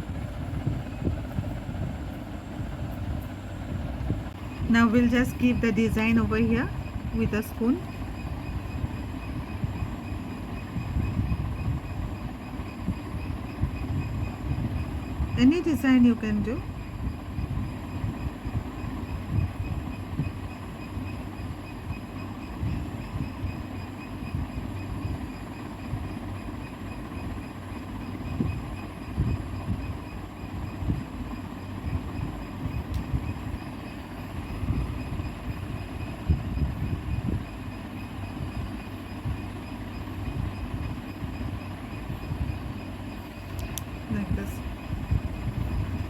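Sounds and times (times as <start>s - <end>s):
faint high whine: 0.0s - 46.0s.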